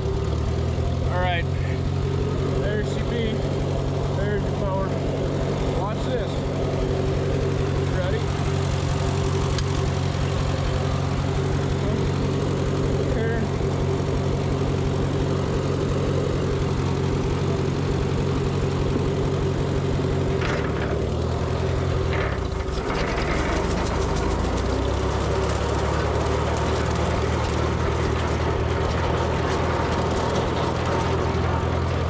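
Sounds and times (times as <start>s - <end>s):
tractor engine running under load: 0.0s - 32.0s.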